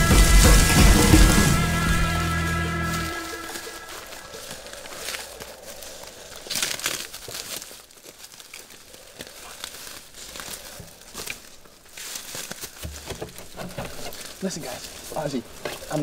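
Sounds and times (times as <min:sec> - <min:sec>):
footsteps in dry leaves: 0:00.0 - 0:16.0.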